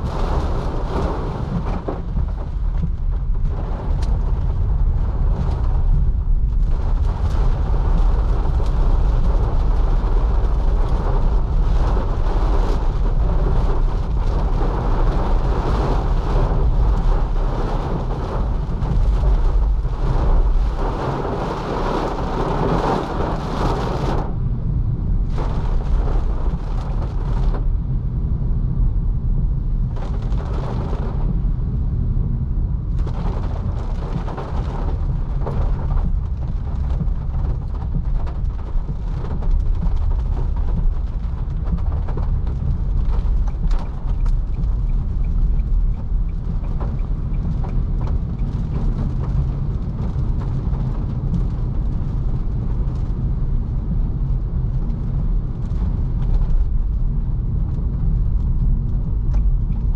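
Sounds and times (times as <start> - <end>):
rain hissing on car roof: 0.0 - 28.7, 29.8 - 31.8, 32.6 - 59.9
tyre and road rumble: 0.0 - 28.9, 29.6 - 59.9.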